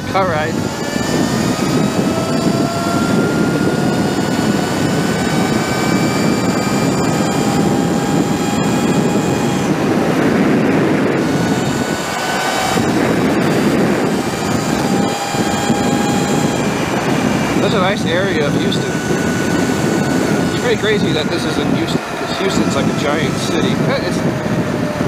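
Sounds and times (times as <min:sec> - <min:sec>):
electric motor whining: 0:00.0 - 0:25.0
wind and road noise: 0:00.0 - 0:25.0.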